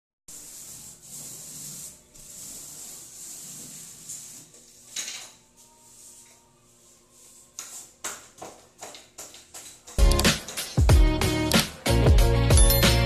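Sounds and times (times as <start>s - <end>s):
paint roller swishing on ceiling: 0.3s - 10.8s.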